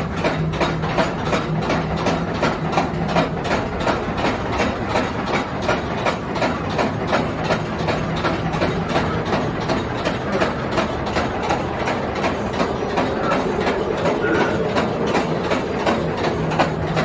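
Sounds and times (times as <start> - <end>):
ride cars rolling on track: 0.0 - 17.0
wheels clacking over rail joints: 0.0 - 17.0.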